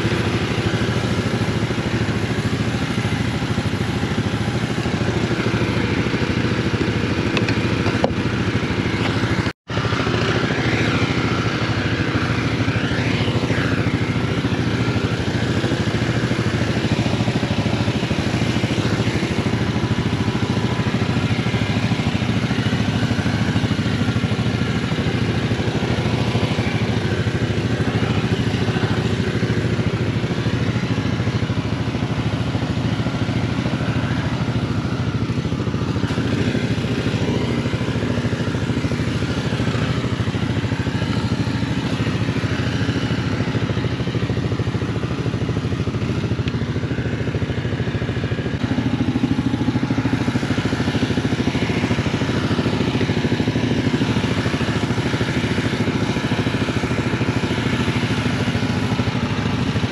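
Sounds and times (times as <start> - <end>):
small engine running under load: 0.0 - 59.9
water jet spraying: 0.0 - 59.9.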